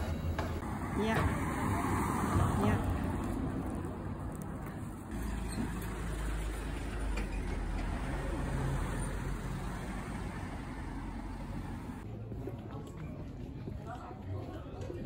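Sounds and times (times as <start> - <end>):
vehicle engine rumble: 0.0 - 12.4
road traffic noise: 0.0 - 12.6.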